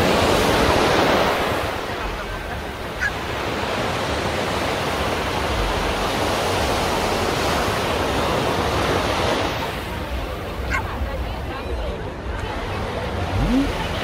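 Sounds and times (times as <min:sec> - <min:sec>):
waves washing up beach: 0:00.0 - 0:14.0.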